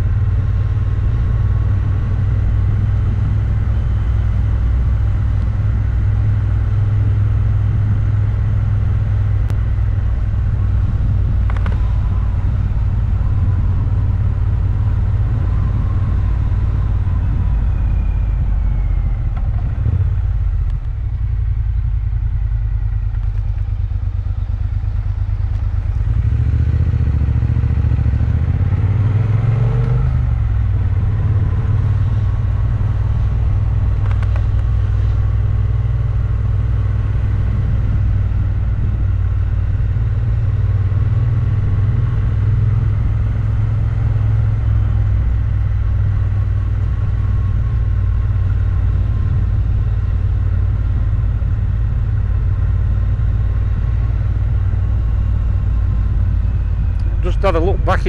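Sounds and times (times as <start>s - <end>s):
motorcycle engine cruising: 0.0s - 58.0s
wind and road rumble: 0.0s - 58.0s.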